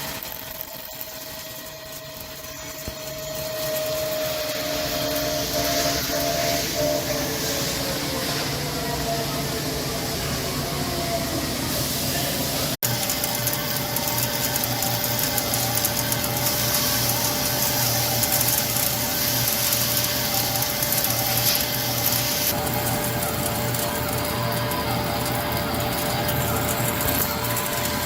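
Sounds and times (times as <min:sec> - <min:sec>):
lathe machine hum: 0:00.0 - 0:28.0.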